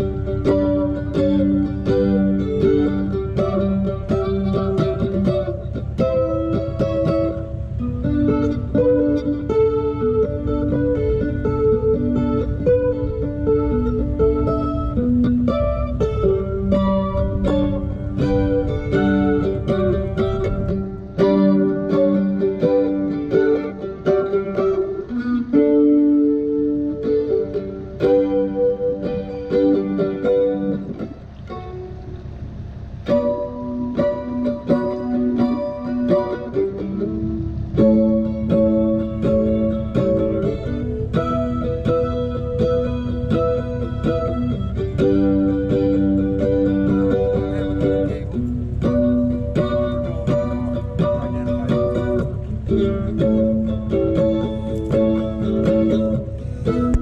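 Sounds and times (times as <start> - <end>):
mandolin plucked notes: 0.0 - 57.0.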